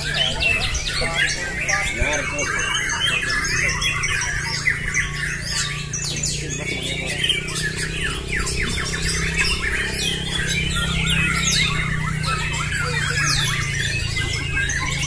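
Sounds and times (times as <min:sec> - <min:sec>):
birds singing whistles and trills: 0:00.0 - 0:15.0.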